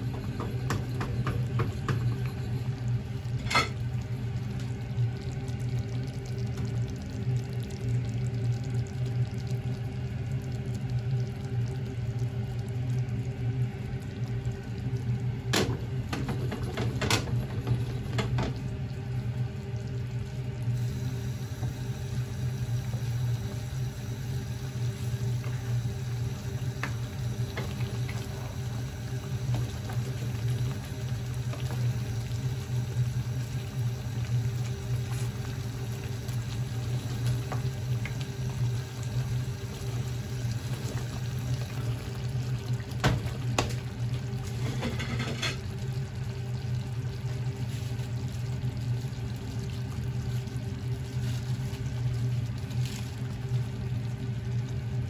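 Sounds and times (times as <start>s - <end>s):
low hum: 0.0s - 45.0s
sauce simmering and bubbling: 0.0s - 55.0s.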